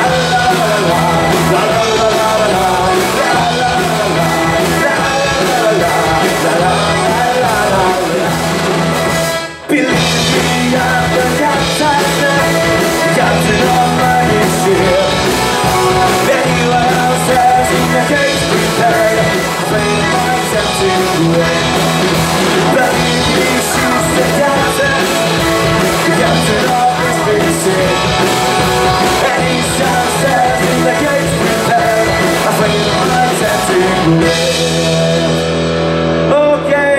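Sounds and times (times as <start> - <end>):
accordion: 0.0 - 35.4
live rock band playing: 0.0 - 36.9
man singing: 0.0 - 36.9.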